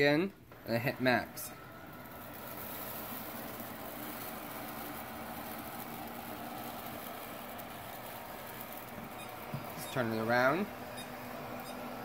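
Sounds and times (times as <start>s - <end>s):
faint steady whine: 0.0s - 12.0s
robot vacuum motor hum: 0.5s - 12.0s.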